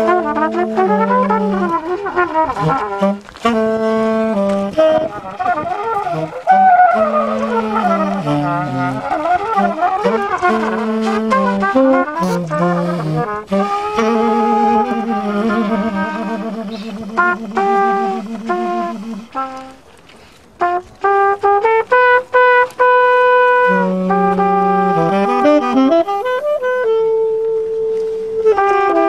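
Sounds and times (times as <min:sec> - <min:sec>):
trumpet and saxophone jazz duet: 0:00.0 - 0:29.0.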